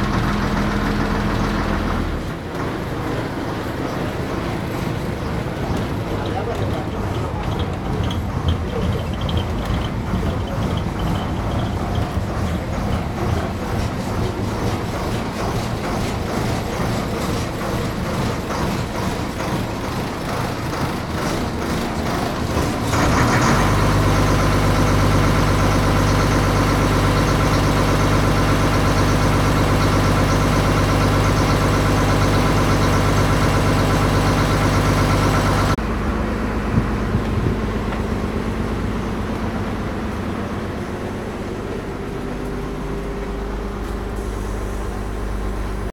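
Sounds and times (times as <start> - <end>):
boat engine humming: 0.0 - 45.9.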